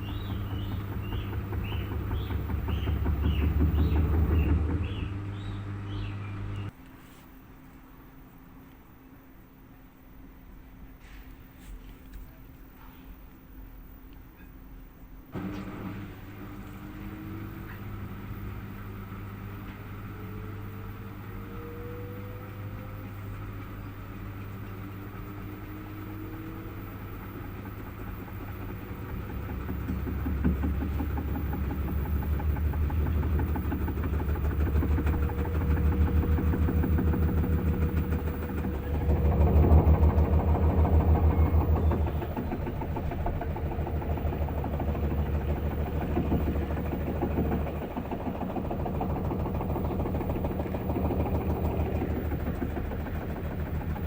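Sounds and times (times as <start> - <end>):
pulsing drum rumble: 0.0 - 6.8, 15.4 - 54.0
washing machine motor whine: 0.0 - 8.1, 15.1 - 54.0.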